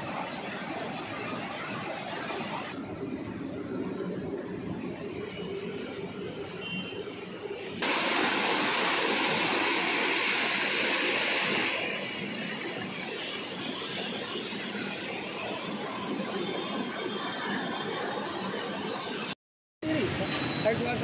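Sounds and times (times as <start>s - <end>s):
water rushing around concrete pier: 0.0s - 3.2s, 7.0s - 21.0s.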